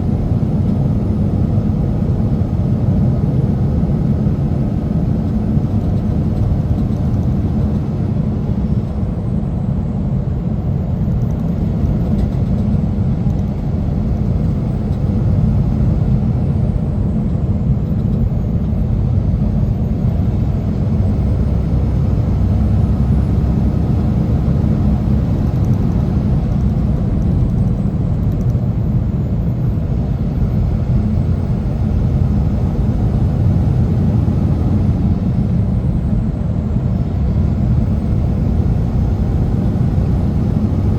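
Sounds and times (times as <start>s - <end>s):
road noise: 0.0s - 40.9s
truck engine rumble: 0.0s - 40.9s.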